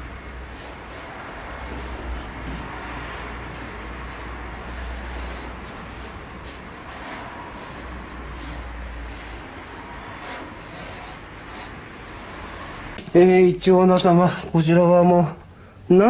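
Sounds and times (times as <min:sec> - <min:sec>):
brush scrubbing metal: 0:00.0 - 0:13.0.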